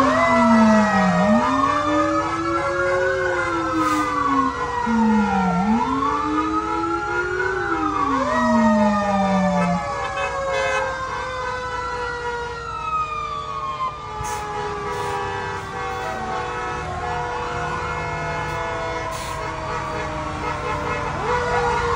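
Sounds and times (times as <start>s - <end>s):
fire engine sirens wailing: 0.0s - 21.9s.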